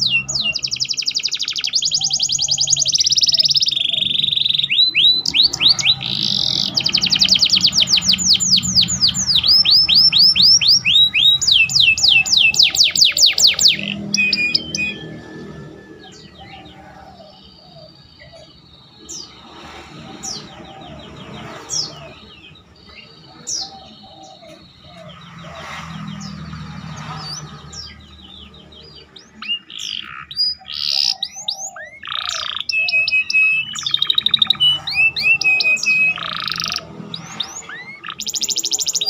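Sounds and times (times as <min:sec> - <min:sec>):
canary singing: 0:00.0 - 0:39.0.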